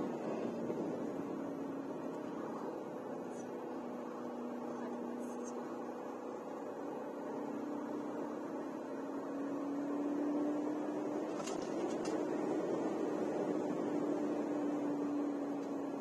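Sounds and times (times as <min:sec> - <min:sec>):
off-road engine droning under load: 0:00.0 - 0:16.0.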